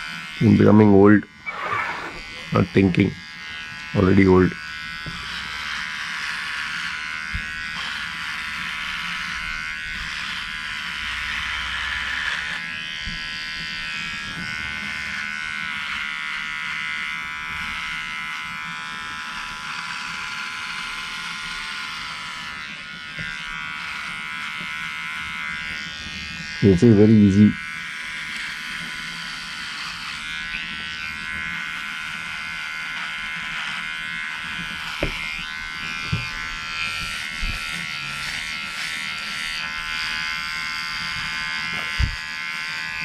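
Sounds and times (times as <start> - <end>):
electric clipper buzzing: 0.0 - 43.0.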